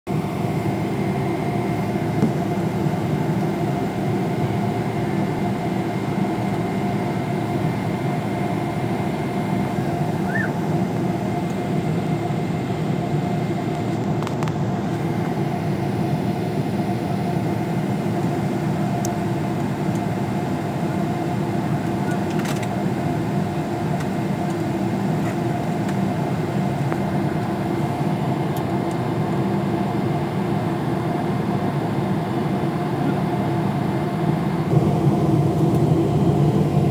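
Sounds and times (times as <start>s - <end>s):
jet engine cabin noise: 0.1s - 36.9s.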